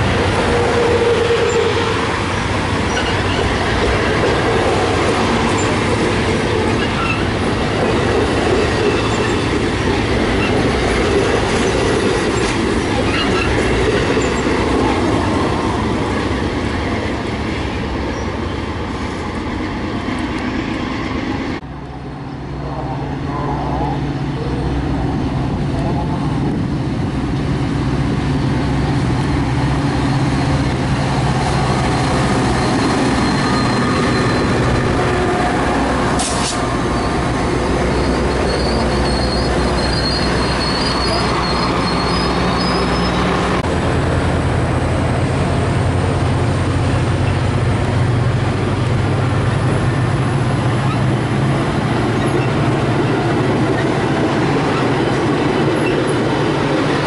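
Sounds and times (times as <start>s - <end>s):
locomotive engine running: 0.0s - 57.0s
train wheels on rails: 0.0s - 57.0s.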